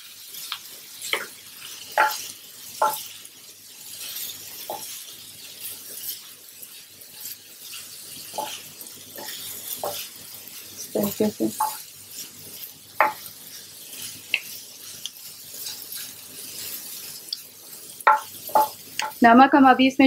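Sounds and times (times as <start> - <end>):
liver sizzling on a pan: 0.0 - 20.0.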